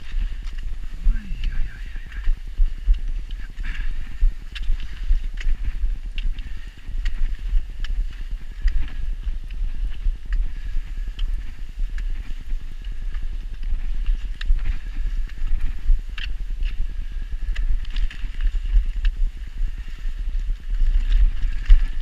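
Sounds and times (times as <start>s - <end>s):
footsteps crunching on snow: 0.0s - 22.0s.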